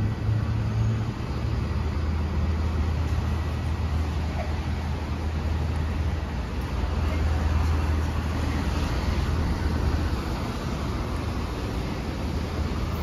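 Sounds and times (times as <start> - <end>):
tyres hissing on wet pavement: 0.0 - 13.0.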